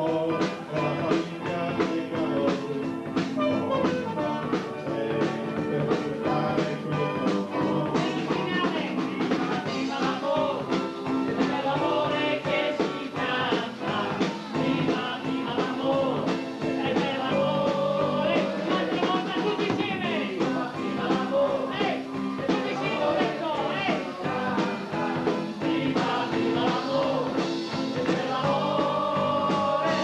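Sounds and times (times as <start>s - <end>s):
men singing together: 0.0s - 30.0s
rock and roll band: 0.0s - 30.0s
steady drum beat: 0.0s - 30.0s.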